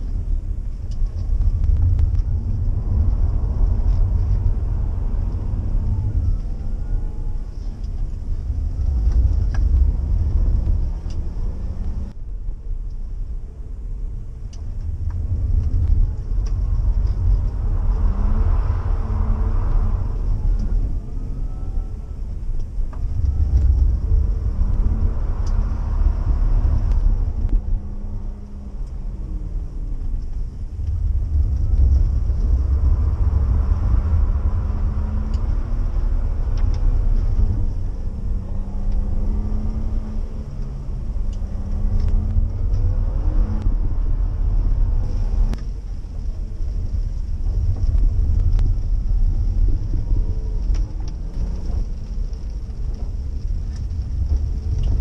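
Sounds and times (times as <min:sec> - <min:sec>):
car engine accelerating through gears: 0:00.0 - 0:12.2, 0:13.0 - 0:55.0
low road rumble: 0:00.0 - 0:55.0.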